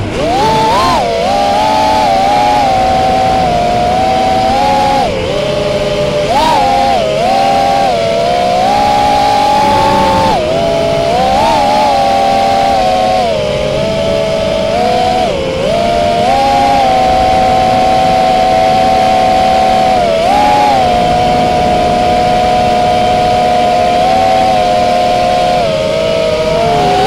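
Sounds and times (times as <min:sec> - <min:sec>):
electric aircraft motors whining: 0:00.0 - 0:27.0.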